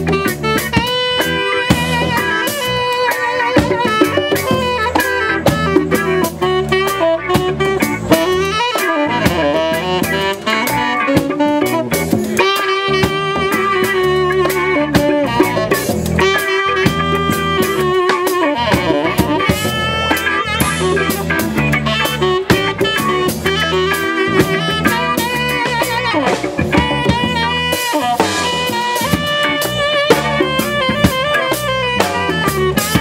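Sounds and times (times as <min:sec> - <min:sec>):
bass guitar: 0:00.0 - 0:33.0
congas: 0:00.0 - 0:33.0
drum kit: 0:00.0 - 0:33.0
electric guitar: 0:00.0 - 0:33.0
saxophone solo: 0:00.0 - 0:33.0.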